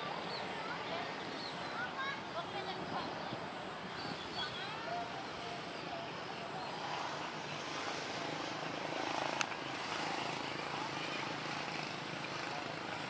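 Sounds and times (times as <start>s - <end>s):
aircraft engine noise: 0.0s - 13.0s.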